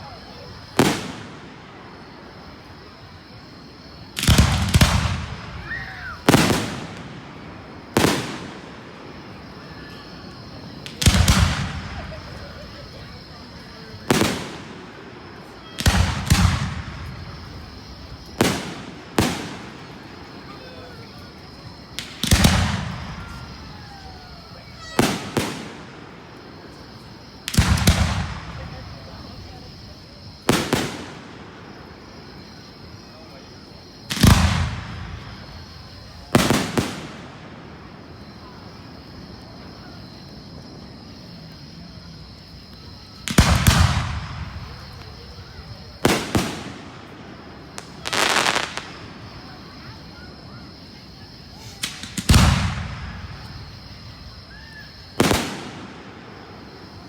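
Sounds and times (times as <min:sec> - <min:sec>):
fireworks booming: 0:00.0 - 0:57.0.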